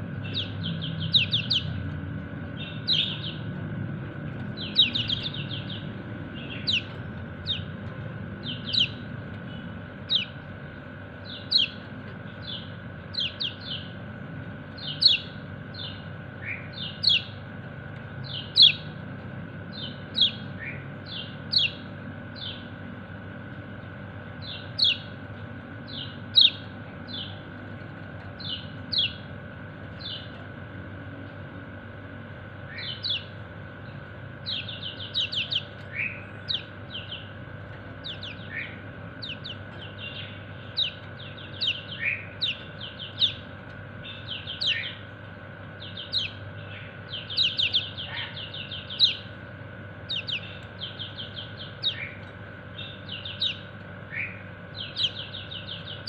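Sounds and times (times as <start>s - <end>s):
bird chirping calls: 0.0s - 17.5s, 18.1s - 22.8s, 23.9s - 27.5s, 28.2s - 29.3s, 32.6s - 56.0s
faint steady hum: 0.0s - 56.0s.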